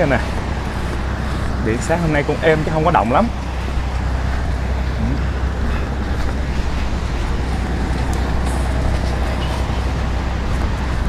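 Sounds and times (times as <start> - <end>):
calm sea: 0.0 - 11.0
wind rumbling: 0.0 - 11.0.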